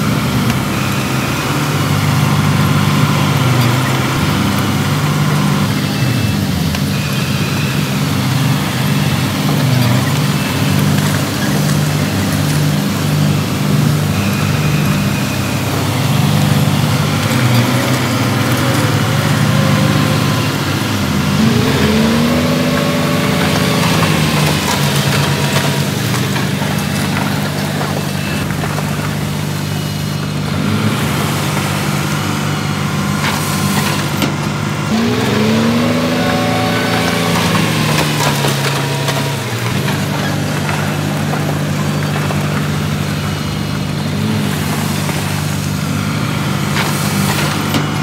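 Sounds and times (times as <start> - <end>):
heavy diesel engine revving: 0.0 - 48.0.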